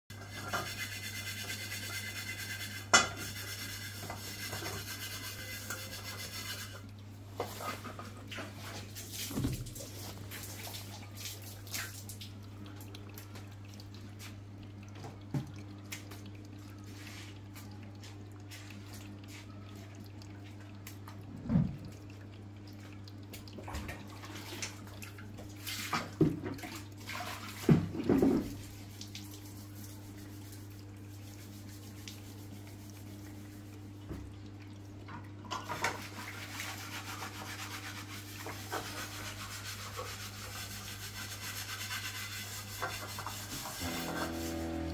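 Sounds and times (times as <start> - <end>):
washing machine humming: 0.1 - 44.9.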